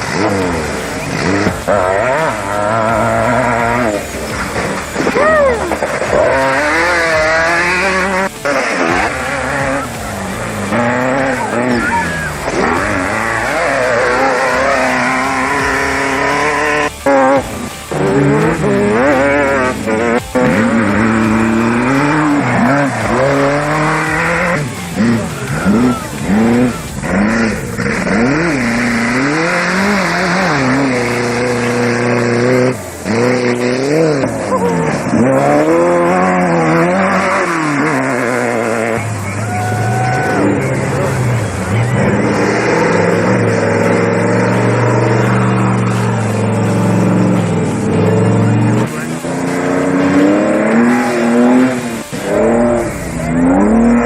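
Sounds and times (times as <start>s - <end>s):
race vehicle engines revving: 0.0s - 54.0s.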